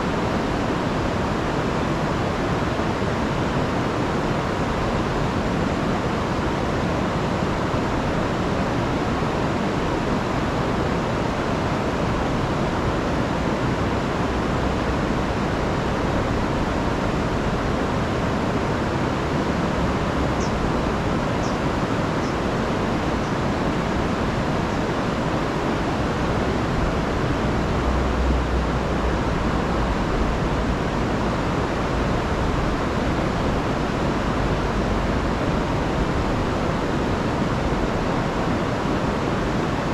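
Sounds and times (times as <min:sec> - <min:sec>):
river rushing over falls: 0:00.0 - 0:39.9.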